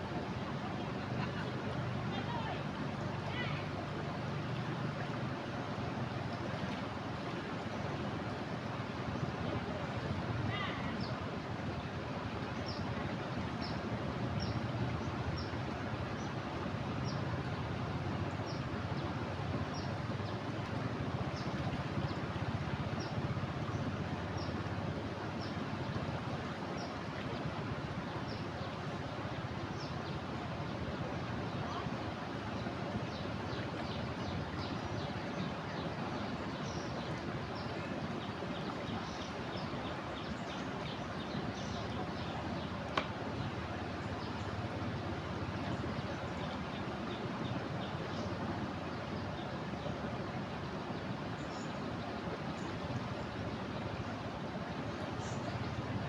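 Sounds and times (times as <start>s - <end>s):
river rushing: 0.0s - 56.0s.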